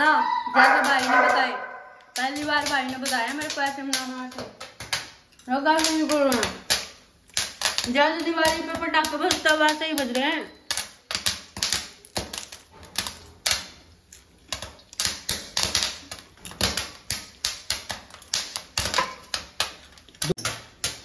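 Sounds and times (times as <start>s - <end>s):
popcorn popping: 0.0s - 21.0s.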